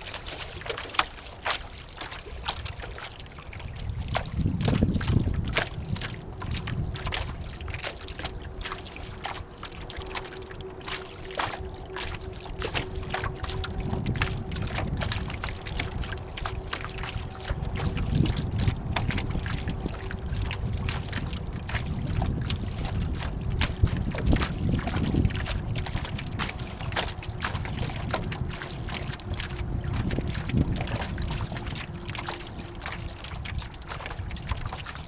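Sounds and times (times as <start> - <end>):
water splashing against hull: 0.0 - 35.0
wind buffeting microphone: 0.0 - 35.0.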